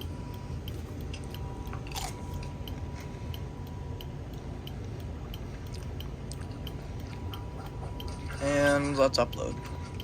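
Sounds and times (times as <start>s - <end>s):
faint ticking: 0.0s - 10.0s
low hum: 0.0s - 10.0s.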